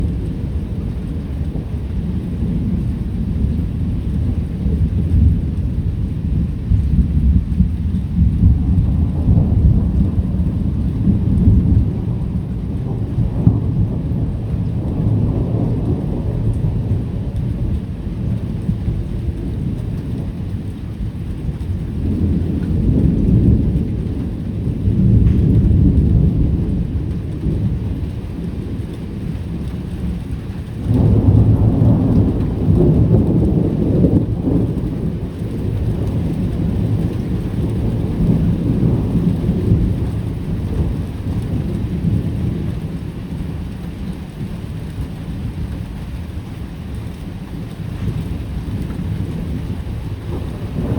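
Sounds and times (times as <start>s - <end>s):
steady rain: 0.0s - 50.9s
thunder rumbling: 0.0s - 50.9s.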